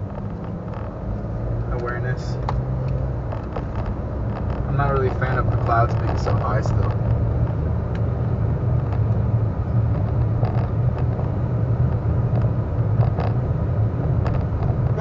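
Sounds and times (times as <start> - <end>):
car road noise hum: 0.0 - 15.0.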